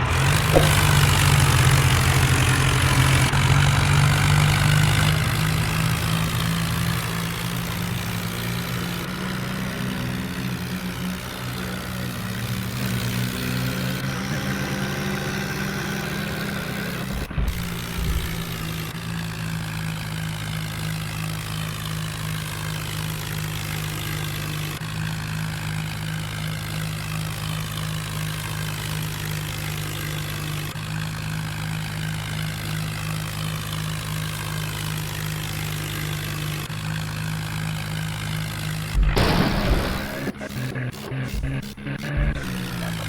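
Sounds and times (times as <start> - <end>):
tractor diesel engine droning: 0.0 - 43.0.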